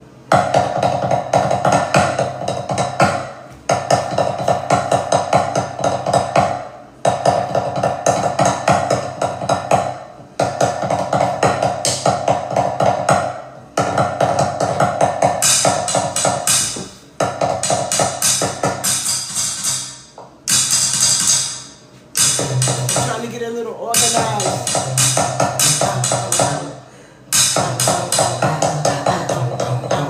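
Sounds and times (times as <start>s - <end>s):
looped drum beat: 0.3s - 19.7s, 20.5s - 30.0s.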